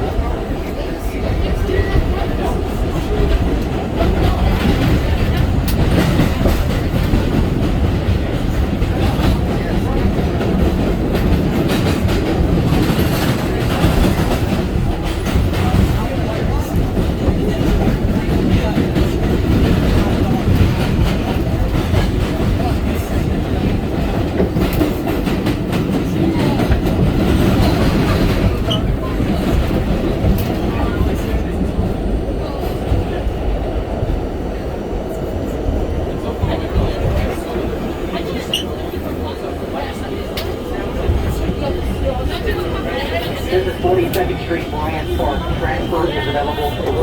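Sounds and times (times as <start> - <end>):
subway train rumble: 0.0 - 47.0.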